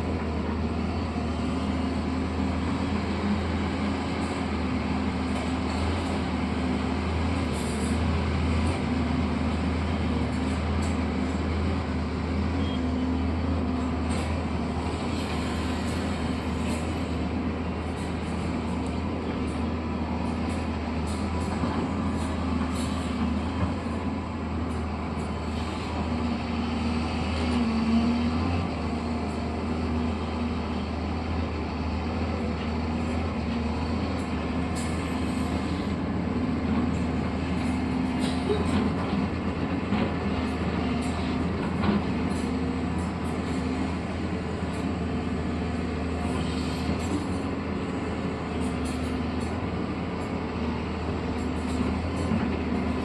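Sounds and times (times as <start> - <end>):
construction machinery engine drone: 0.0 - 53.0.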